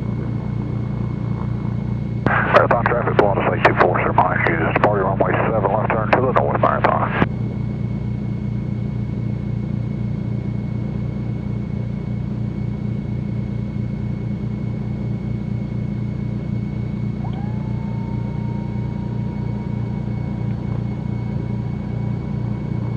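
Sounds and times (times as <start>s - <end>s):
twin piston aircraft engines droning: 0.0s - 22.9s.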